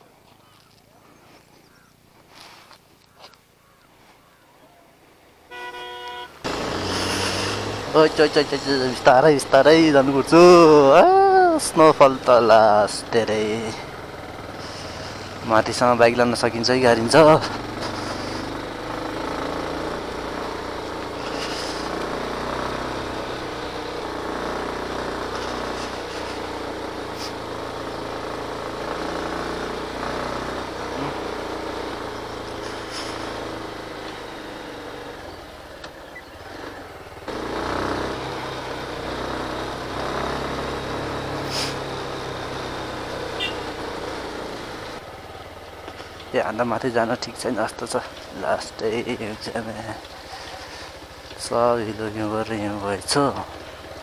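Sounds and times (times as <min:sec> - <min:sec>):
motorcycle running: 0:00.1 - 0:04.4, 0:05.3 - 0:54.0.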